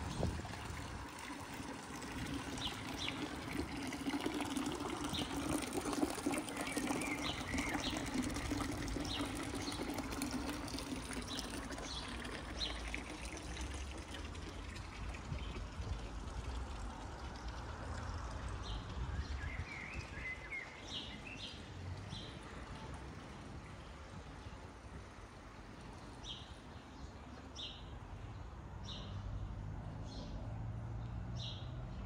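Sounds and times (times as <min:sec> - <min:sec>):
water trickling into stone trough: 0:00.0 - 0:27.6.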